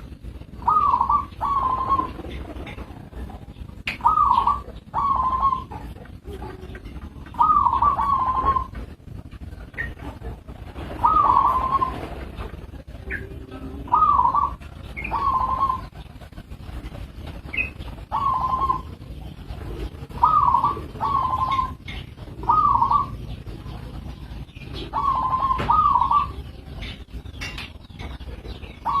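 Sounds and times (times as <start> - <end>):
dove cooing: 0.0 - 29.0
low background rumble: 0.0 - 29.0.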